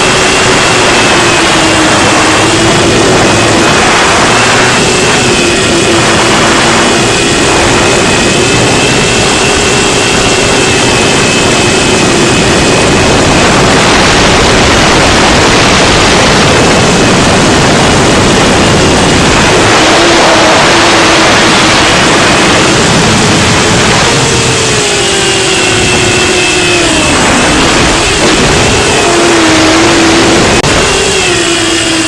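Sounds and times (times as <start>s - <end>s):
drone motors whining: 0.0s - 32.0s
wind rush on microphone: 0.0s - 32.0s.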